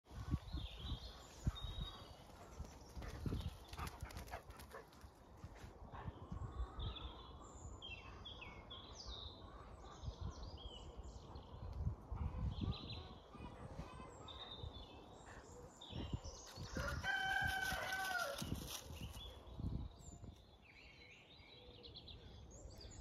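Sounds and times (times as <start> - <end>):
songbirds singing: 0.1 - 23.0.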